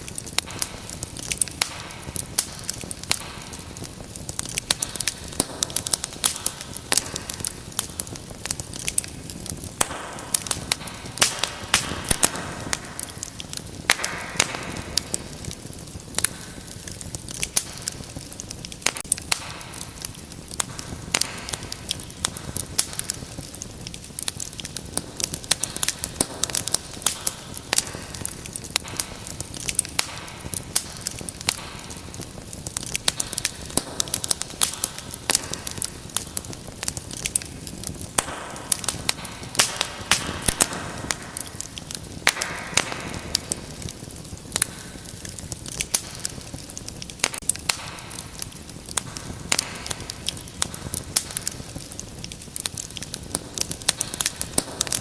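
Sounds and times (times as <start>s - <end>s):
wood fire hissing and crackling: 0.0s - 55.0s.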